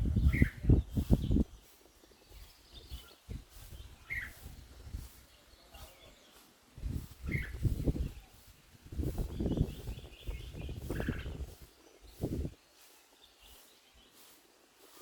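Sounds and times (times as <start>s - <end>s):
bird chirping: 0.0s - 14.4s.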